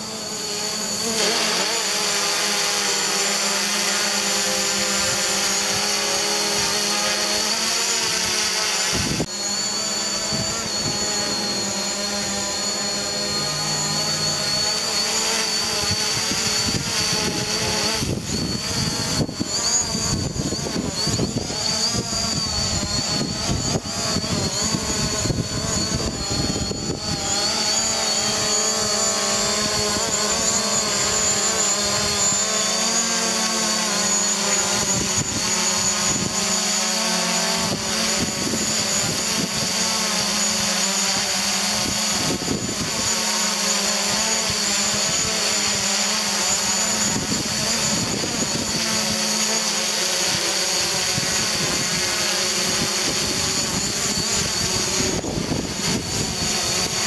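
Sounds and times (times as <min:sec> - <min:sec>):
quadcopter propellers whining: 0:00.0 - 0:57.0.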